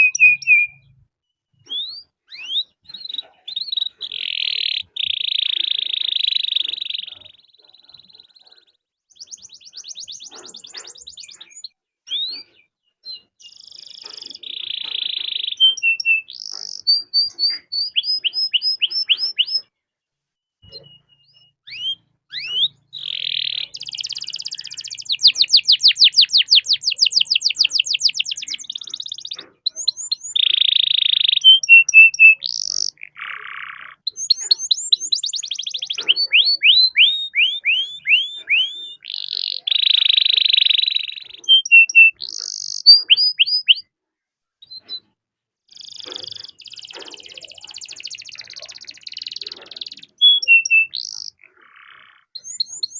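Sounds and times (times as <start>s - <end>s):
canary singing trills: 0.0s - 19.7s, 20.6s - 43.9s, 44.6s - 52.9s.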